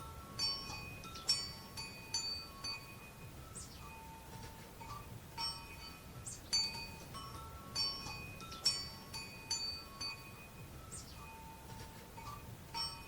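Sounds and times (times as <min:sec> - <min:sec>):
wind chime ringing: 0:00.0 - 0:13.0.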